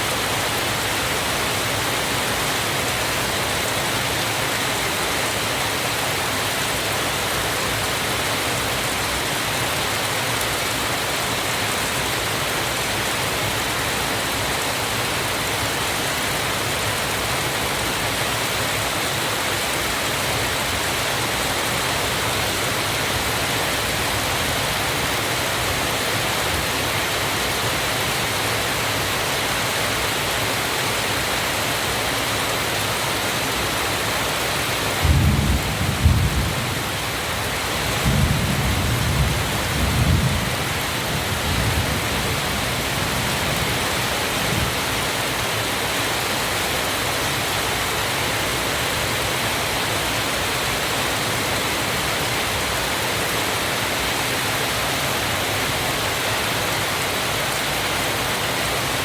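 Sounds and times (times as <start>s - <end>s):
falling water rushing: 0.0s - 59.0s.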